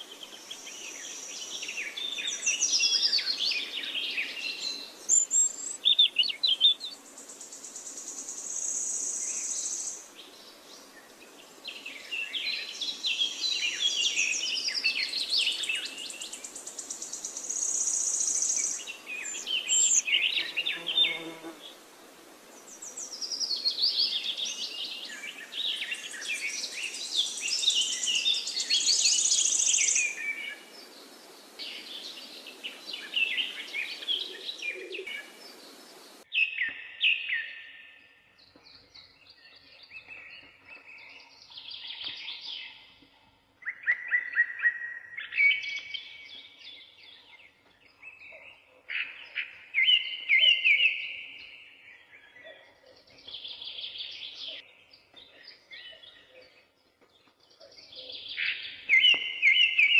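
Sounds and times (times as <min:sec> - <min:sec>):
birds chirping and trilling: 0:00.0 - 0:21.8, 0:22.5 - 0:59.9.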